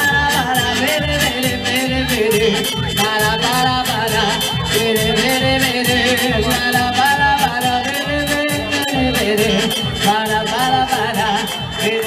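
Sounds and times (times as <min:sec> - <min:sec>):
live band playing dance music: 0:00.0 - 0:12.0.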